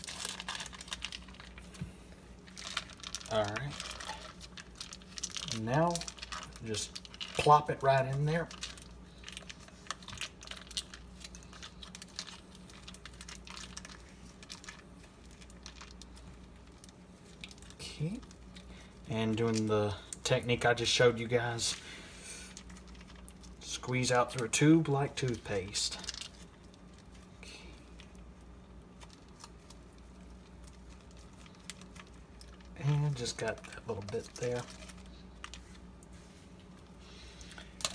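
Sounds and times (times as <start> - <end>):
foil wrapper crinkling: 0.0 - 1.8, 2.4 - 37.9
soft squishing of meat: 0.0 - 37.9
steady low hum: 0.0 - 37.9.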